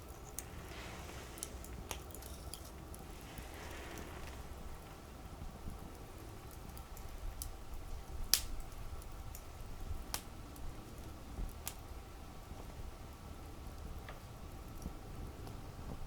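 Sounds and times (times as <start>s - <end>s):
low rumble of flames: 0.0s - 16.0s
wood crackling and popping: 0.0s - 16.0s.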